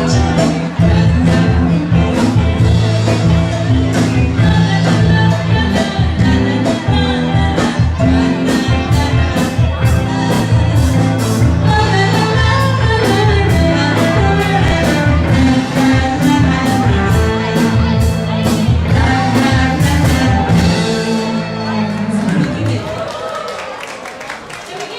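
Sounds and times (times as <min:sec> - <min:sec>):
person singing: 0:00.0 - 0:23.0
pop rock band playing: 0:00.0 - 0:23.2.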